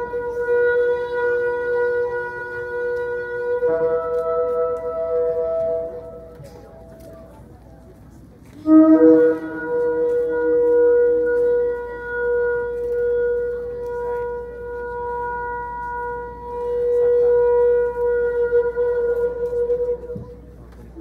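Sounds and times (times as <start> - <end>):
lower note underneath: 0.0 - 21.0
wind instrument long note: 0.0 - 21.0.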